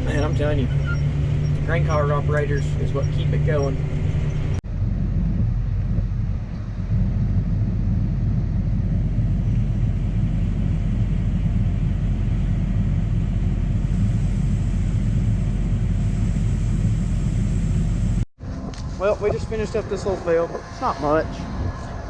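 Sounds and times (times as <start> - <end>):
tractor engine rumbling: 0.0 - 22.0.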